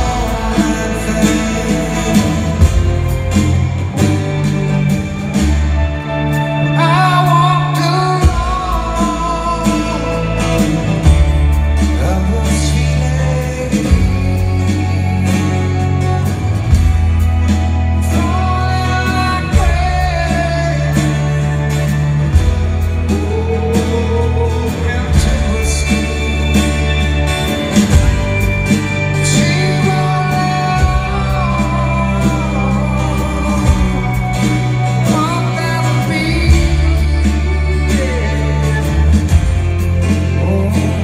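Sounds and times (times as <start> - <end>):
man singing: 0.0 - 5.3, 6.4 - 41.0
live rock band playing: 0.0 - 41.0.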